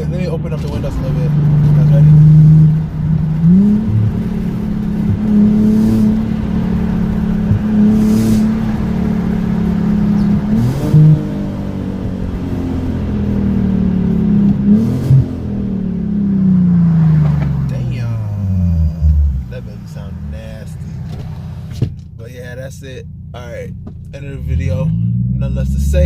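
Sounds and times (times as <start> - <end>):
car exhaust accelerating: 0.0 - 26.0.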